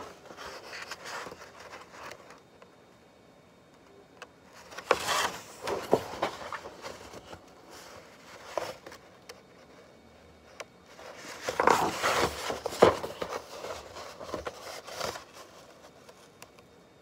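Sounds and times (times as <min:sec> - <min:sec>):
book pages rustling: 0:00.0 - 0:02.5, 0:04.5 - 0:09.8, 0:10.6 - 0:16.6.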